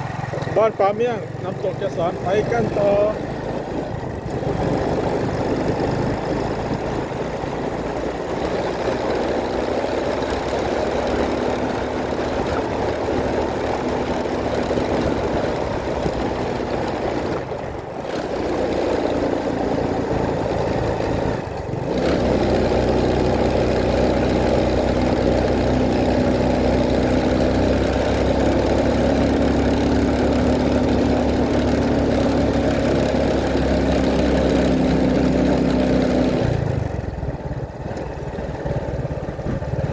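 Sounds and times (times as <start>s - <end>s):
vehicle engine drone: 0.0s - 39.9s.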